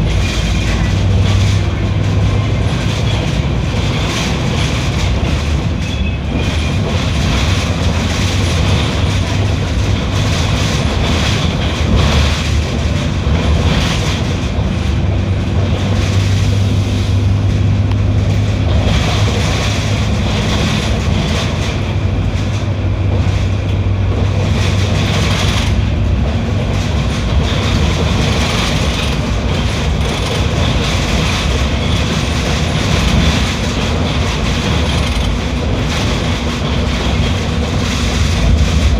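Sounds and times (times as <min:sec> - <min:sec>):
bus engine running: 0:00.0 - 0:38.9
road noise: 0:00.0 - 0:38.9.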